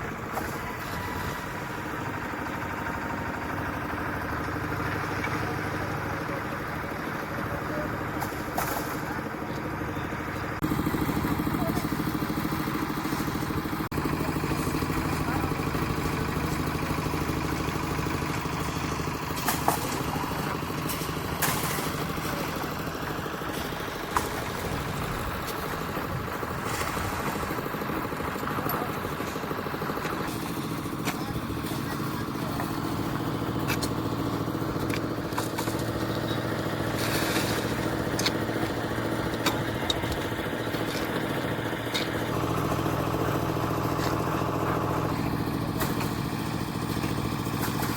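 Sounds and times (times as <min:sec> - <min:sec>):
concrete mixer engine running: 0:00.0 - 0:47.9.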